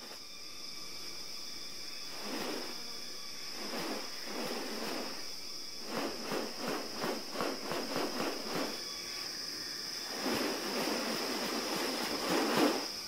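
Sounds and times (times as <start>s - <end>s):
high-pitched insect drone: 0.0s - 13.0s
rapid pulsing calls: 1.5s - 13.0s.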